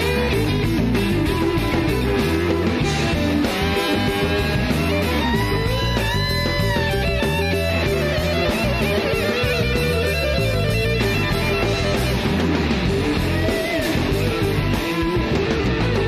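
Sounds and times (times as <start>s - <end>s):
bass and drums backing: 0.0s - 16.0s
electric guitar with string bends: 0.0s - 16.0s.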